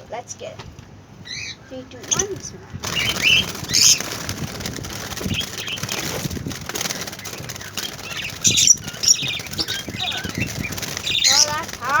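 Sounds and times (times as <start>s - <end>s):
birds flapping wings: 2.0s - 12.0s
rustling: 2.0s - 12.0s.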